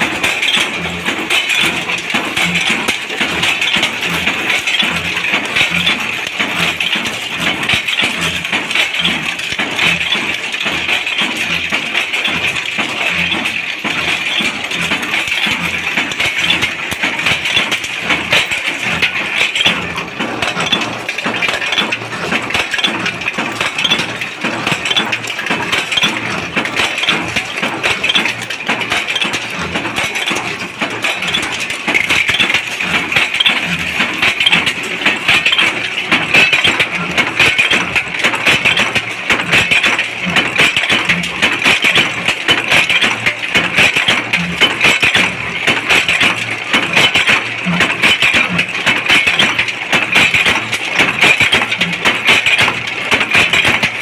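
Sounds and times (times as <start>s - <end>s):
machine clattering: 0.0s - 54.0s.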